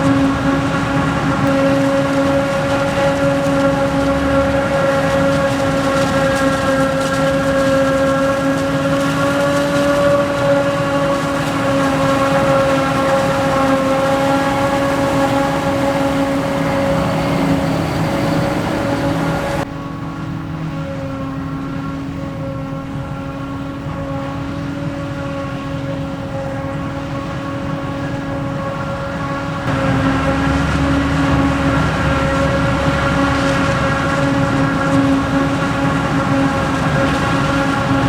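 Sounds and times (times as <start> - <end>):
machinery high pitched whine: 0.0 - 25.4, 26.6 - 38.0
engine drone: 0.0 - 38.0.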